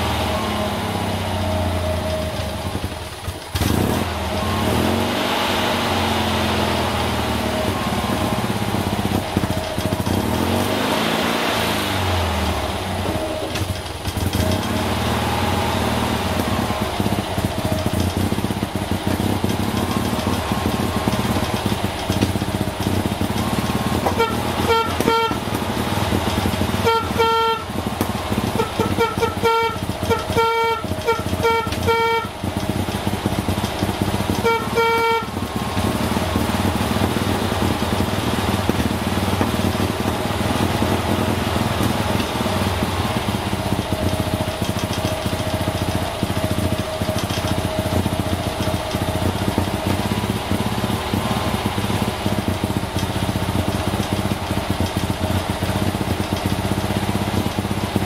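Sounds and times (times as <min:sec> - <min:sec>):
car engine idling: 0:00.0 - 0:58.0
horn toots: 0:00.0 - 0:58.0.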